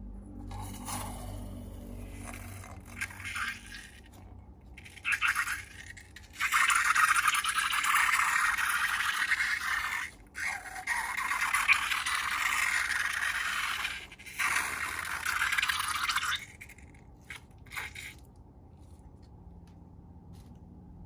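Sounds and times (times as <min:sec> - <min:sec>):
slime materials scraping and rattling: 0:00.3 - 0:18.2.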